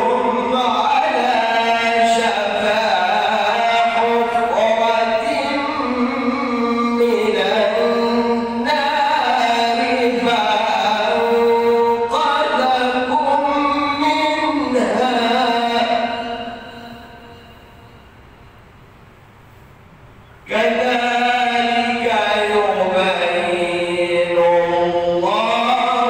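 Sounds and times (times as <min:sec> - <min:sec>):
man chanting melodically: 0:00.0 - 0:18.2, 0:20.3 - 0:26.0.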